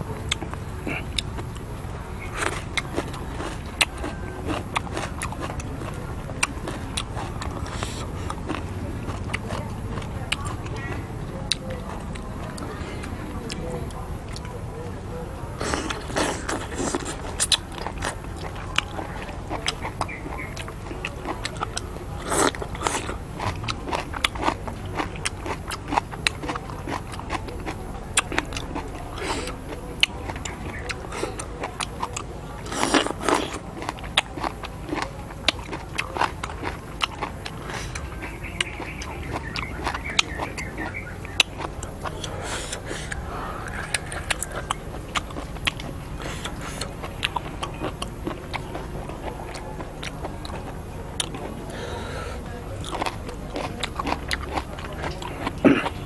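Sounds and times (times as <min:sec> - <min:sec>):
person chewing and lip smacking: 0:00.0 - 0:56.0.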